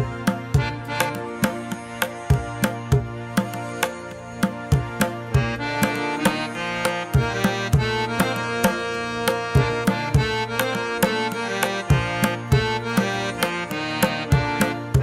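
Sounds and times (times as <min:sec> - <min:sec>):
sharp percussion beat: 0:00.0 - 0:15.0
sustained pitched notes: 0:00.0 - 0:15.0.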